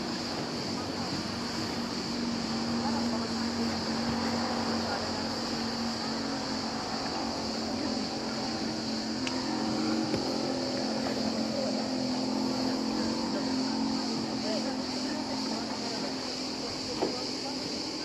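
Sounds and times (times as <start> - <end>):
boat engine humming: 0.0 - 18.0
high-pitched hiss: 0.0 - 18.0.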